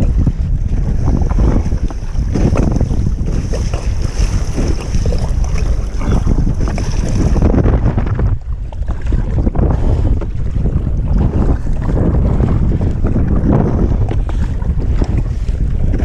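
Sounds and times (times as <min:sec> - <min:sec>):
waves slapping a kayak hull: 0:00.0 - 0:16.0
wind buffeting the microphone: 0:00.0 - 0:16.0.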